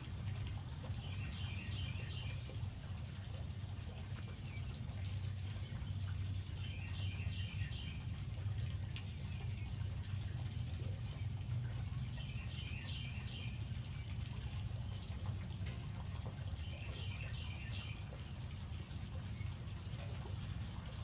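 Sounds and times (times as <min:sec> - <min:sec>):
small birds chirping: 0:00.3 - 0:21.0.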